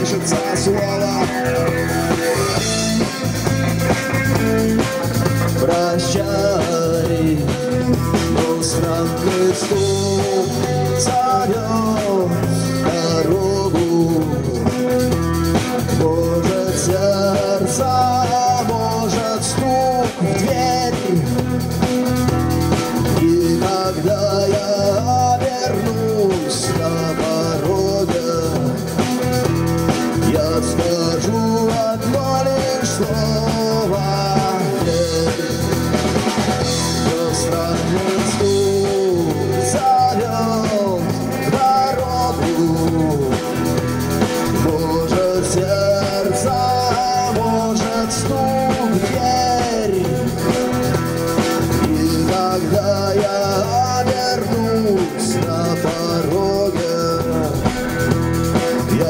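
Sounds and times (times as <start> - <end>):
bass guitar: 0.0 - 59.0
drum kit beat: 0.0 - 59.0
electric guitar melody: 0.0 - 59.0.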